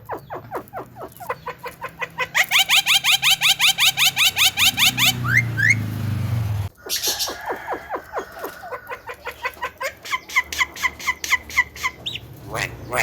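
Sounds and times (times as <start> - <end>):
songbird chirps: 0.0 - 13.0.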